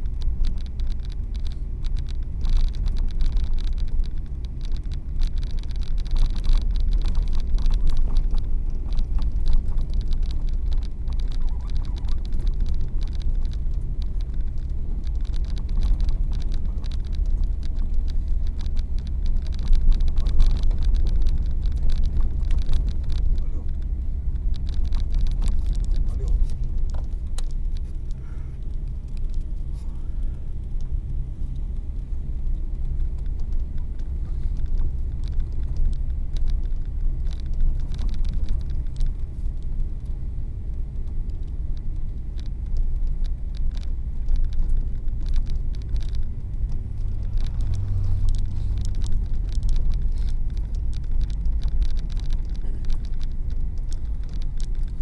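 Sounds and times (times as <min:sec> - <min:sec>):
engine and road rumble in a cabin: 0:00.0 - 0:55.0
faint clicks and ticks: 0:00.0 - 0:55.0.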